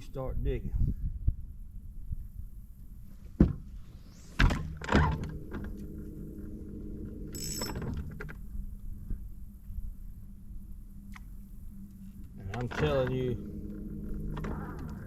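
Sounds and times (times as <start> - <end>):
steady low hum: 0.6 - 15.0
high hiss: 2.8 - 15.0.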